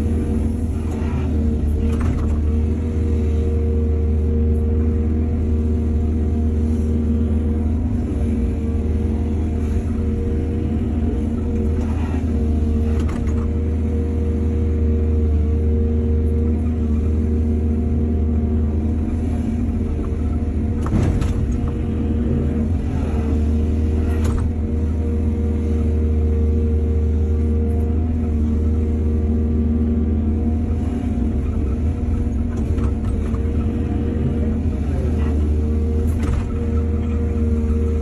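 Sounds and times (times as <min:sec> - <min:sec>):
diesel engine humming: 0:00.0 - 0:38.0.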